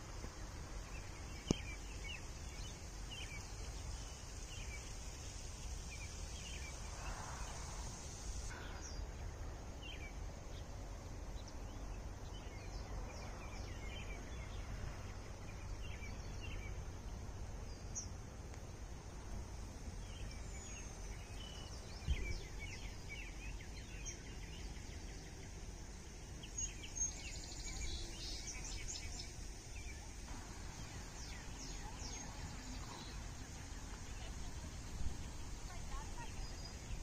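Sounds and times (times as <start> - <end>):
birds chirping: 0.9 - 37.0.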